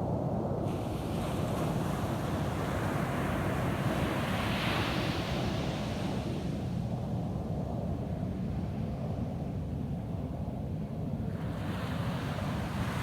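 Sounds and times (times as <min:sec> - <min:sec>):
low rumble of surf: 0:00.0 - 0:13.0
wind: 0:00.0 - 0:13.0.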